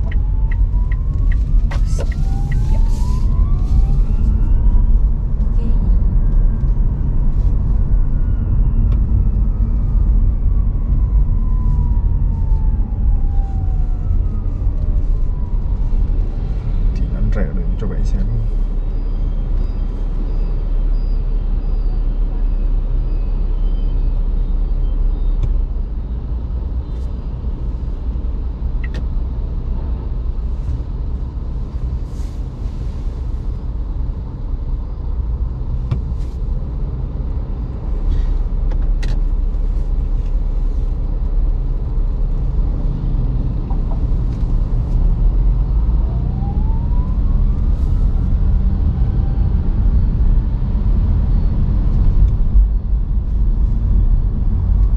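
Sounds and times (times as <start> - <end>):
car road and tyre rumble: 0.0 - 54.9.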